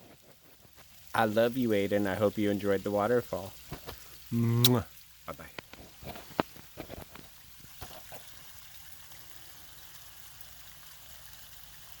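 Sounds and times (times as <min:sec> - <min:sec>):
water trickling down waterfall: 0:00.0 - 0:12.0.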